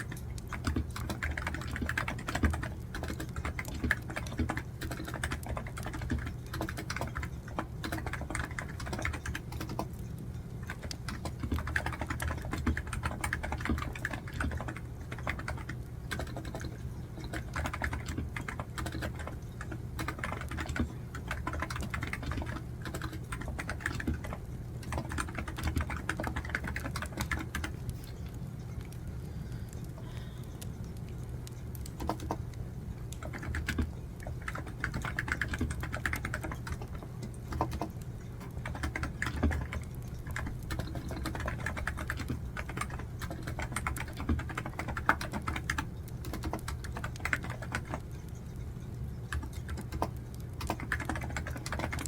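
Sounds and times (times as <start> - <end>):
typing on a computer keyboard: 0.0 - 28.0, 29.7 - 52.0
steady low hum: 0.0 - 52.0.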